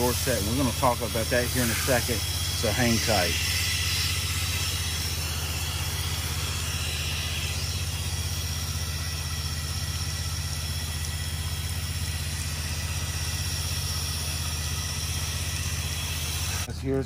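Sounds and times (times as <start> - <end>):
hiss of spraying wand: 0.0 - 16.7
pressure washer engine and pump: 0.0 - 17.0.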